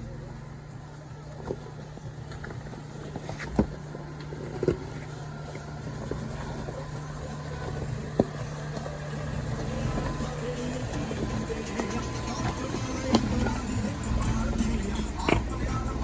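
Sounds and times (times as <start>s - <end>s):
engine running low: 0.0s - 16.0s.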